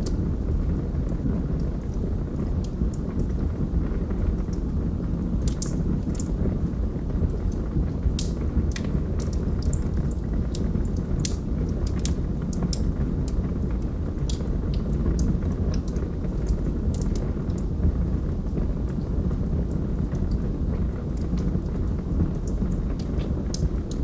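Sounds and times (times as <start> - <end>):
fire rumbling: 0.0 - 24.0
logs crackling and popping: 0.0 - 24.0.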